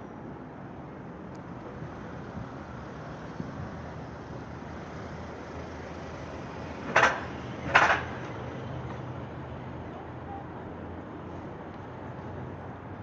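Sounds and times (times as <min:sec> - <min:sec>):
low traffic hum: 0:00.0 - 0:13.0.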